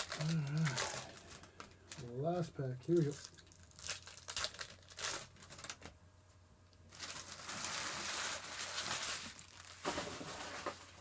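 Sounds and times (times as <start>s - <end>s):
foil wrapper crinkling: 0.0s - 2.2s, 2.8s - 6.0s, 6.9s - 11.0s.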